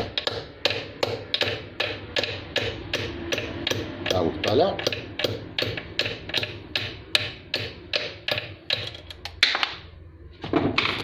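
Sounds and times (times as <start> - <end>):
hammer tapping metal: 0.0 - 9.8.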